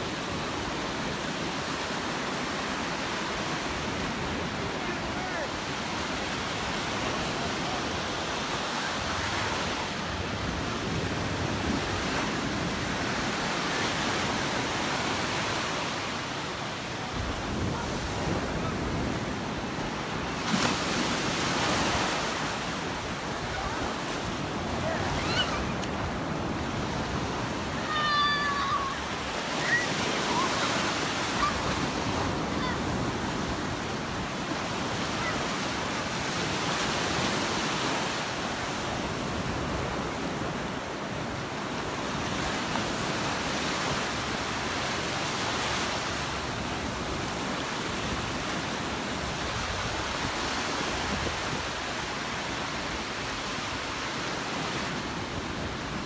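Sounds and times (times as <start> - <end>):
waves washing onto beach: 0.0 - 56.0.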